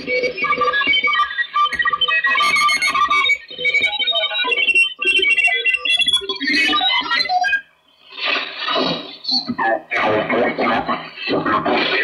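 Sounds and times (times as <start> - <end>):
music through radio speaker: 0.0 - 12.0.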